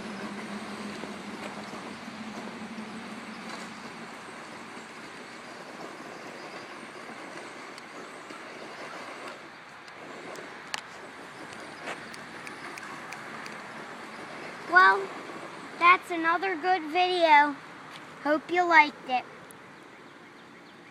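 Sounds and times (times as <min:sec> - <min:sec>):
rc truck driving over gravel: 0:00.0 - 0:19.2.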